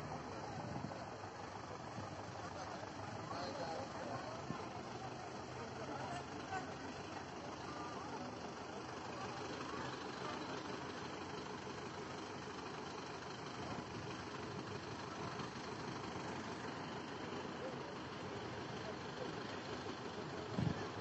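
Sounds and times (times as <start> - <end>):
tractor engines idling: 0.0 - 21.0.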